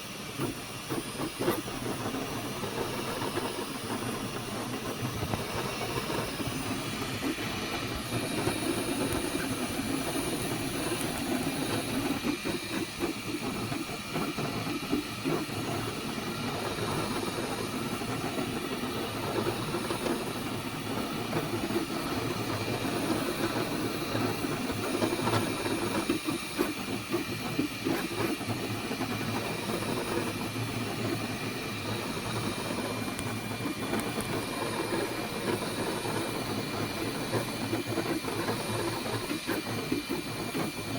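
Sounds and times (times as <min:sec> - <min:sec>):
cooling fans hissing: 0:00.0 - 0:40.9
printer motors whirring: 0:00.0 - 0:40.9.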